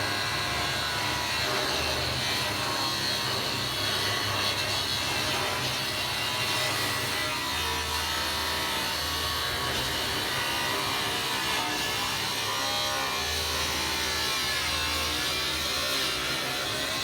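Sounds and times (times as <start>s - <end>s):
power tool cutting: 0.0s - 17.0s.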